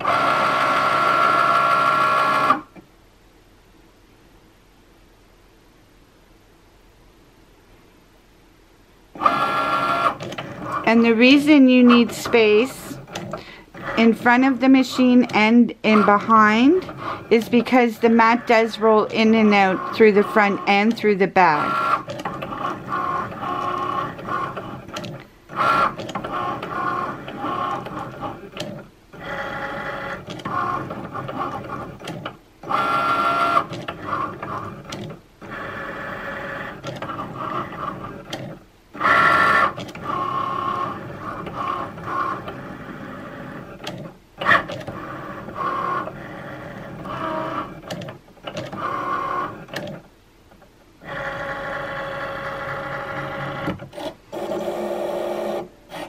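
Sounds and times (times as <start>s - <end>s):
cutting machine motors whining: 0.0s - 2.7s, 9.2s - 50.1s, 51.0s - 56.0s.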